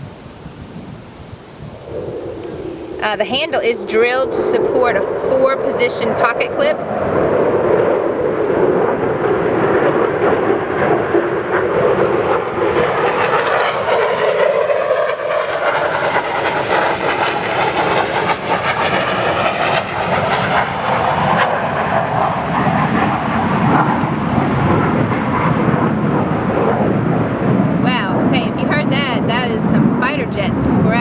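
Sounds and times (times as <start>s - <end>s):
aircraft engine overhead: 1.6s - 31.0s.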